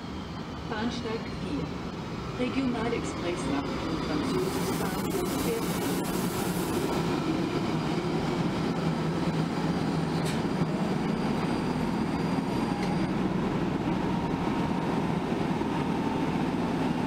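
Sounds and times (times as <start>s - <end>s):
train rolling to a stop: 0.0s - 17.0s.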